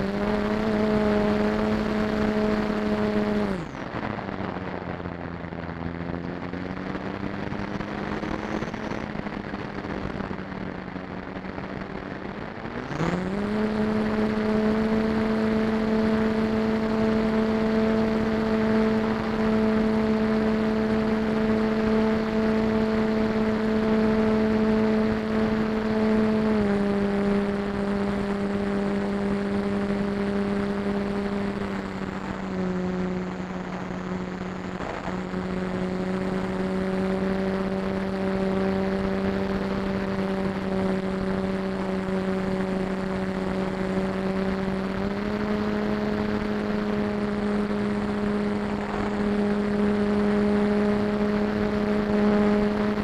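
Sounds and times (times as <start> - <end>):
propeller aircraft engine droning: 0.0 - 53.0
wind noise: 0.0 - 53.0.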